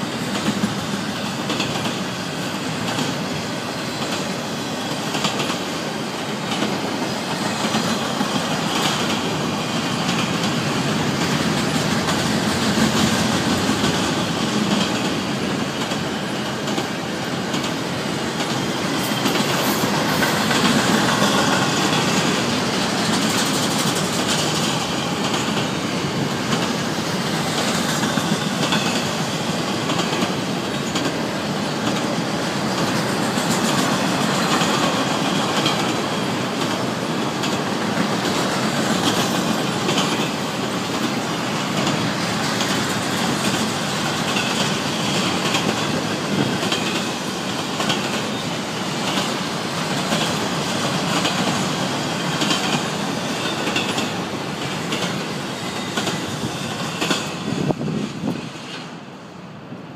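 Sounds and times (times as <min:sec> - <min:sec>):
freight train wheels rumbling: 0:00.0 - 0:59.9
wheels clicking over rail joints: 0:00.2 - 0:58.9.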